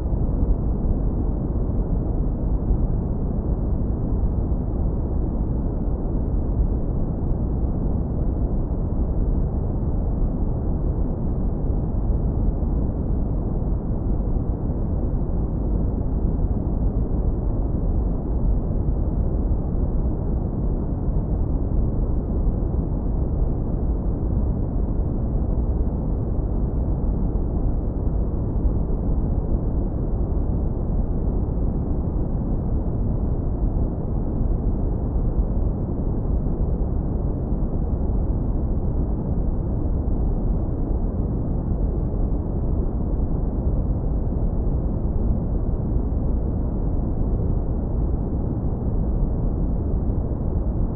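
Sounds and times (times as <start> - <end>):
deep brown noise rumble: 0.0 - 50.9.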